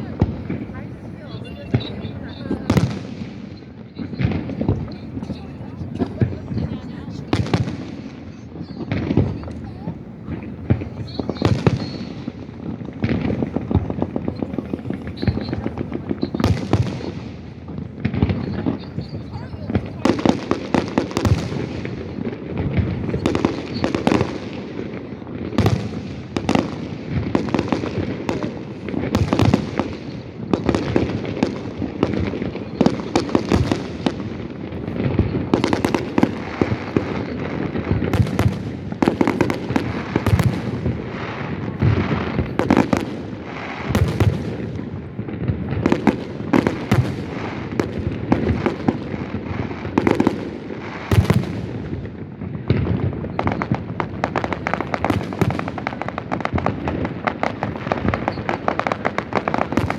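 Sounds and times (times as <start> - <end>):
fireworks bangs and cracks: 0.0 - 59.9.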